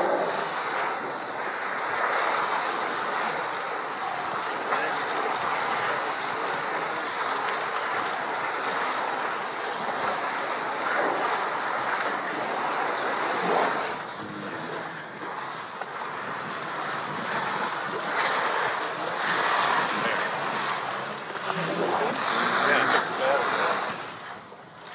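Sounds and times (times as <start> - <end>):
wind buffeting microphone: 0.0 - 24.4.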